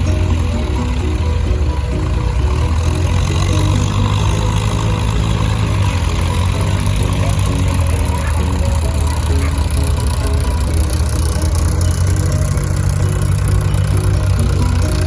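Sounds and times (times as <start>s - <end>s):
tractor engines rumbling: 0.0s - 15.0s
tune playing: 0.0s - 15.0s.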